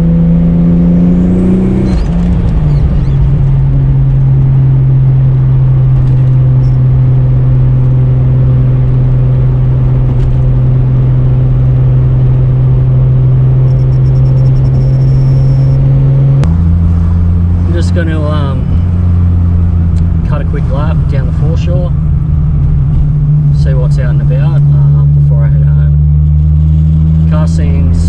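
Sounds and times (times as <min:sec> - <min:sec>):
car engine droning: 0:00.0 - 0:28.0.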